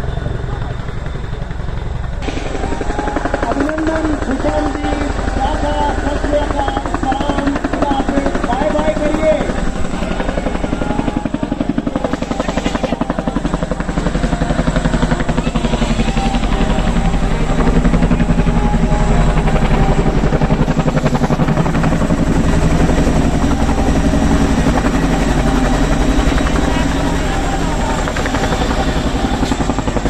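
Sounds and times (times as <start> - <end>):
helicopter flying low: 0.0 - 30.0.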